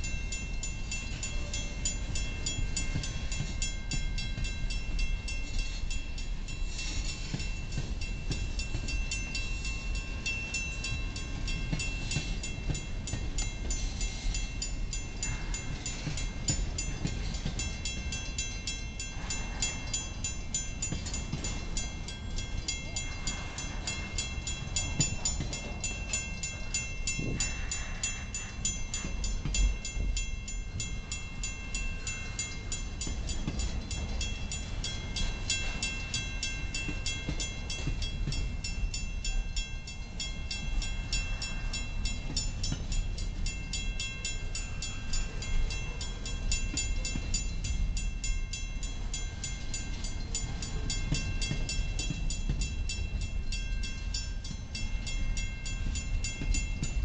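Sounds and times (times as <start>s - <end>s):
crossing bell ringing: 0.0s - 57.0s
train wheels clattering over rail joints: 0.0s - 57.0s.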